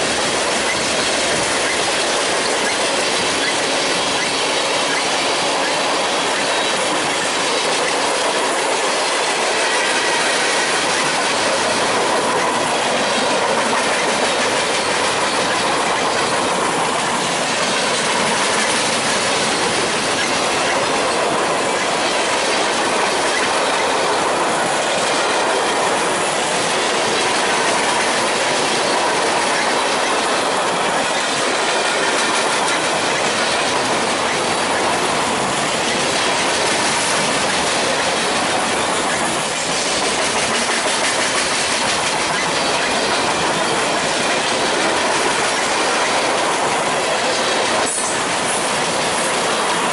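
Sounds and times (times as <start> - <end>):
clickety-clack over rail joints: 0.0 - 49.9
train wheels rushing on rail: 0.0 - 49.9.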